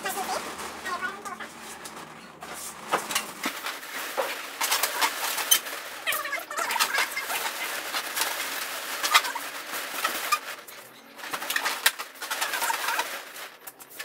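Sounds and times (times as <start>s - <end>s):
balloons squeaking and rubbing: 0.0s - 14.0s.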